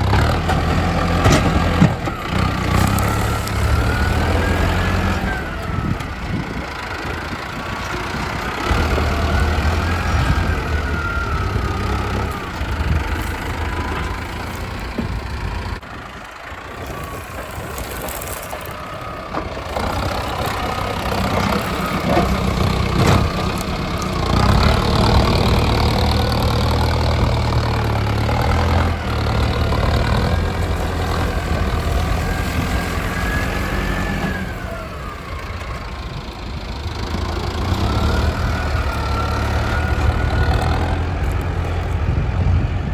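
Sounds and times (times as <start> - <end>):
high engine whine: 0.0 - 42.9
tractor diesel engine running: 0.0 - 42.9.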